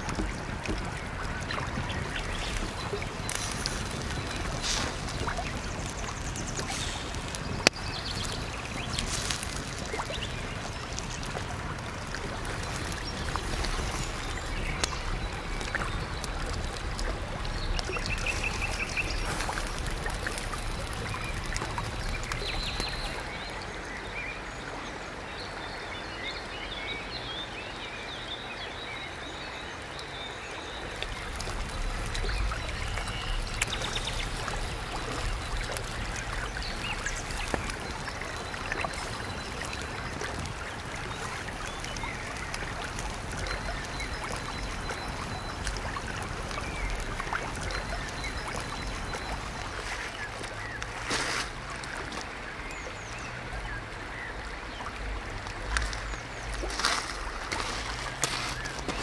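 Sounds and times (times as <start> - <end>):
wood fire crackling: 0.0 - 23.5, 30.8 - 53.9, 54.8 - 59.0
river water rushing: 0.0 - 26.9, 29.2 - 59.0
birds chirping: 0.0 - 59.0.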